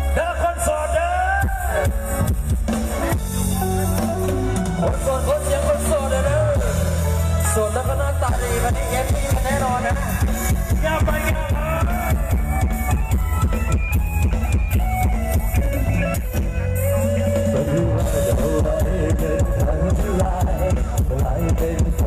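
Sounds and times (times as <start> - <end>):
loud rock music over sound system: 0.0 - 22.0.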